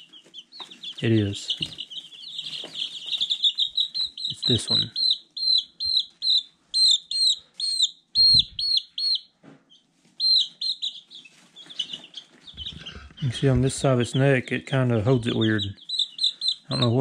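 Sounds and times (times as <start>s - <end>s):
chick peeping loudly: 0.0s - 17.0s.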